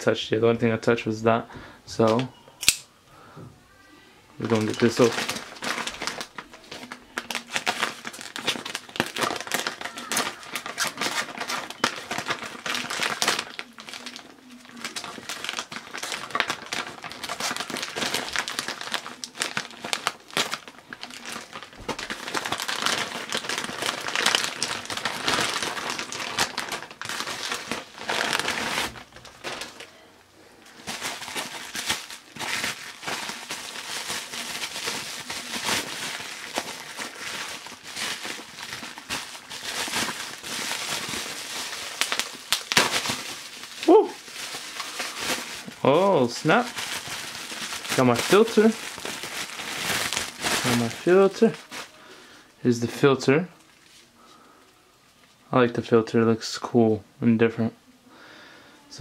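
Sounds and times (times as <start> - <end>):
plastic wrap crinkling: 4.3 - 54.5.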